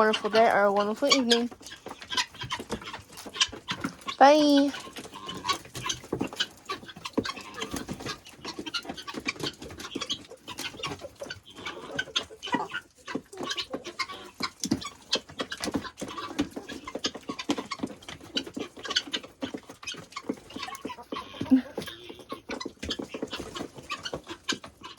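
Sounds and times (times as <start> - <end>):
chickens clucking: 0.0 - 24.9.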